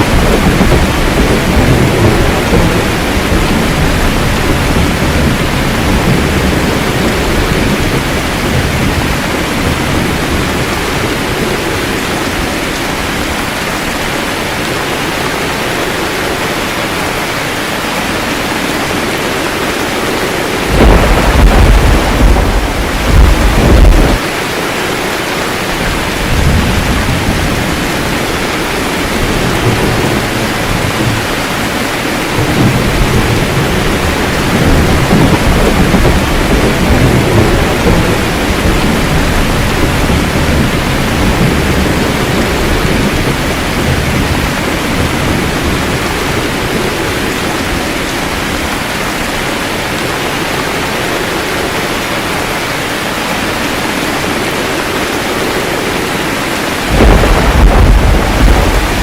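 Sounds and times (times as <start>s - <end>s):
rolling thunder: 0.0s - 17.0s, 17.6s - 48.4s, 53.9s - 59.0s
heavy rain: 0.0s - 59.0s.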